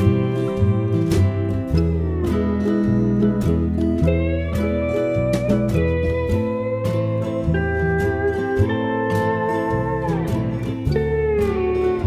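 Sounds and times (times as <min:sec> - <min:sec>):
plucked guitar music with bass: 0:00.0 - 0:12.0.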